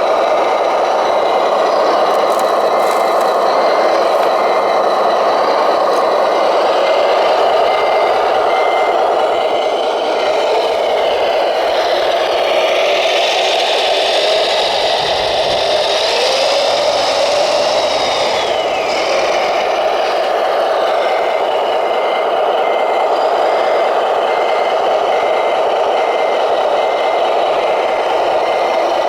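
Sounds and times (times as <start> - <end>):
small electric motors whining: 0.0 - 29.0
truck reversing beeper: 0.0 - 29.0.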